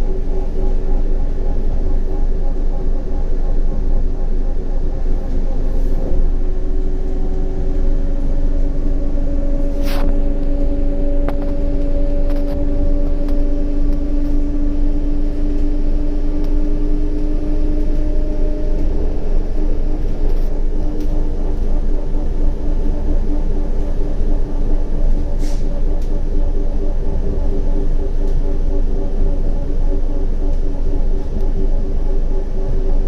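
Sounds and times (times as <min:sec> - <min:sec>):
traction drive hum: 0:00.0 - 0:33.0
tram wheels rumbling on rail: 0:00.0 - 0:33.0.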